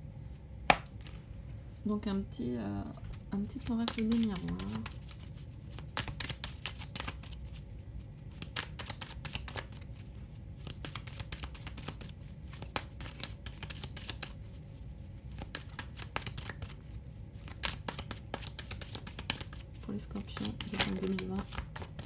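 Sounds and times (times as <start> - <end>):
cards being shuffled: 0.7 - 1.6, 3.1 - 22.0.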